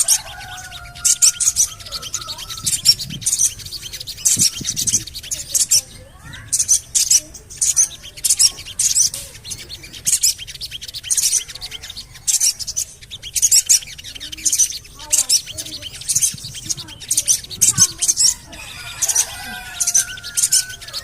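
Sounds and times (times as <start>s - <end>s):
high-pitched bird chirps: 0.0s - 21.0s.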